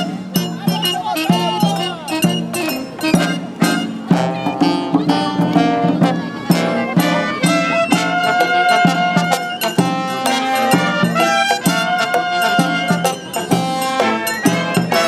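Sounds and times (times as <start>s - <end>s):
brass band horns: 0.0s - 15.0s
drums beating: 0.0s - 15.0s.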